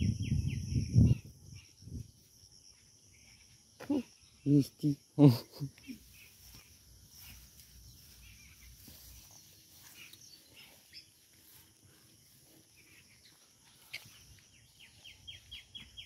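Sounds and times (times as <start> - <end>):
faint birds: 0.0 - 16.0
faint insects: 0.0 - 16.0.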